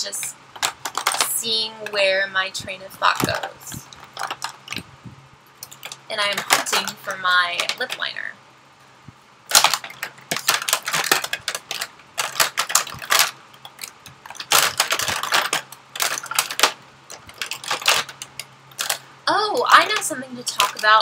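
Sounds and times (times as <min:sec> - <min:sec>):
makeup items clicking and clattering: 0:00.1 - 0:02.0, 0:03.0 - 0:04.9, 0:05.6 - 0:08.2, 0:09.5 - 0:21.0.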